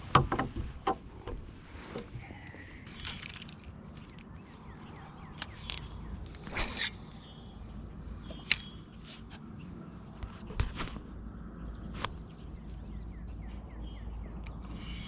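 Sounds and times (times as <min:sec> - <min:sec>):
low steady hum: 0:00.0 - 0:15.0
small birds chirping: 0:02.2 - 0:15.0.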